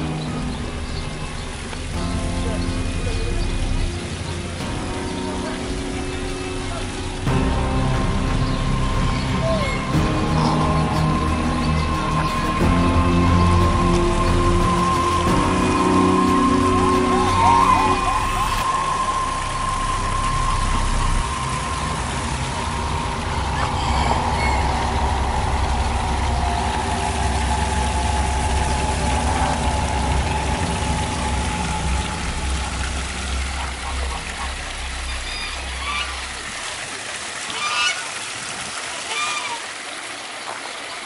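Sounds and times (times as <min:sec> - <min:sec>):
steady low rumble: 0:00.0 - 0:37.8
waterfall splashing into pond: 0:00.0 - 0:41.0.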